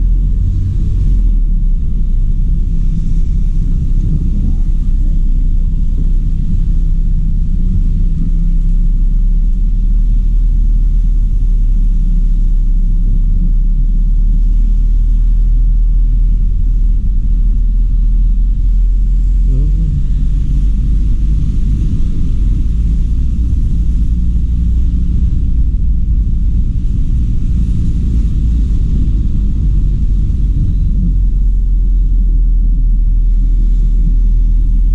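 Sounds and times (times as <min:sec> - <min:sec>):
car engine rumble: 0:00.0 - 0:34.9
road noise: 0:00.0 - 0:34.9.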